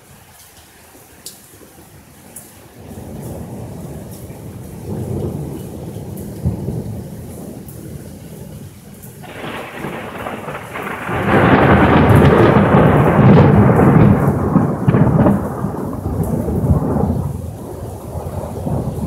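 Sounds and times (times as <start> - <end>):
rumbling thunder: 2.8 - 19.0.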